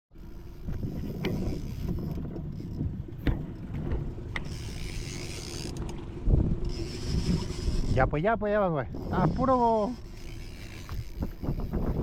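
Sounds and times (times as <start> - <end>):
boat engine running: 0.1 - 12.0.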